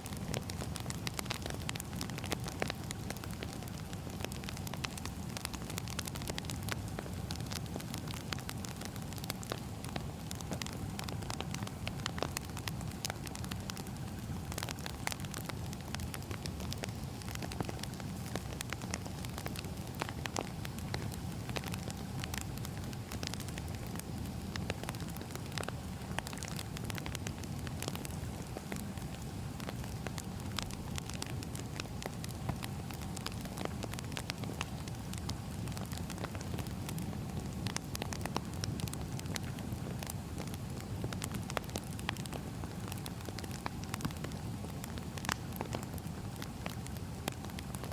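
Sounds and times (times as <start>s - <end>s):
fire rumbling: 0.0s - 47.9s
firewood crackling and popping: 0.0s - 47.9s.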